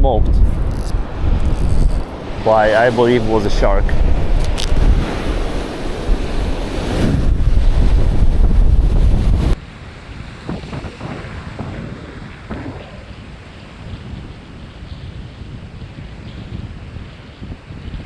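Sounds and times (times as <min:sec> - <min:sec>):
wind buffeting microphone: 0:00.0 - 0:18.0
beach surf: 0:00.4 - 0:17.8.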